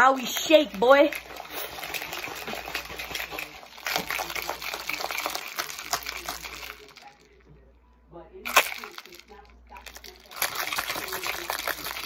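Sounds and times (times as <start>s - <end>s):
liquid sloshing in shaker cup: 0.0s - 7.4s, 8.5s - 12.0s.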